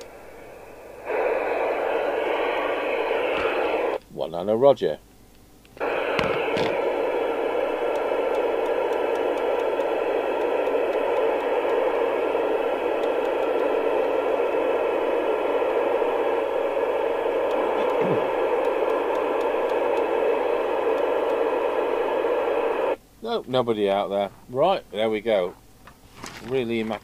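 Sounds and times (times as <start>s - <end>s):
radio static hiss: 0.0s - 5.0s, 5.7s - 27.0s.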